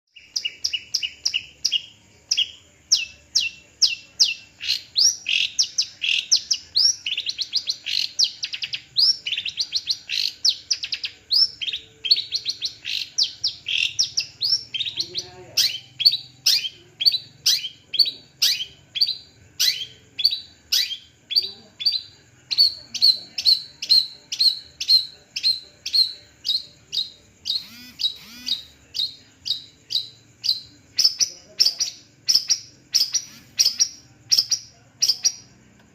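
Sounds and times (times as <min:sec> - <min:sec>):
shrike singing repeated notes: 0:00.1 - 0:35.6.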